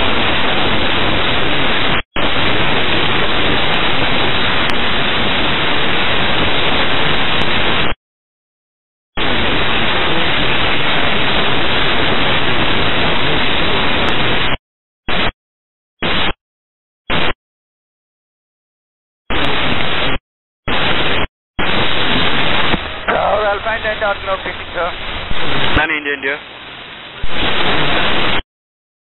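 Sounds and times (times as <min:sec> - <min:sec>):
radio static hiss: 0:00.0 - 0:08.0, 0:09.2 - 0:15.4, 0:16.0 - 0:16.4, 0:17.1 - 0:17.4, 0:19.3 - 0:28.4.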